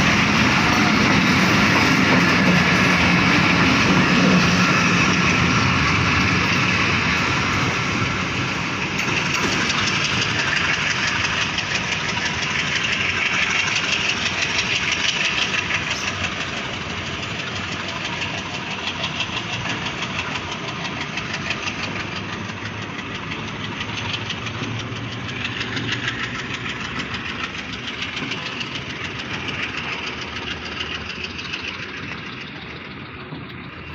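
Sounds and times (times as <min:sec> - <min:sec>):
train wheels clattering on rails: 0:00.0 - 0:33.9.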